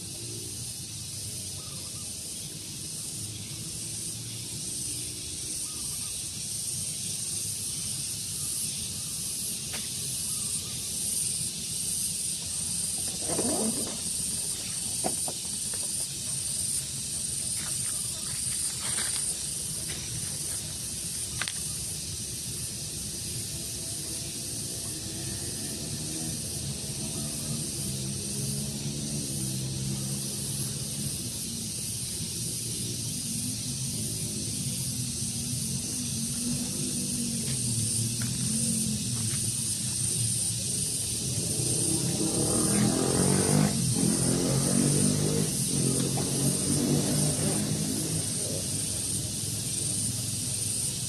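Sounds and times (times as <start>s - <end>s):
high-pitched hiss: 0.0s - 51.0s.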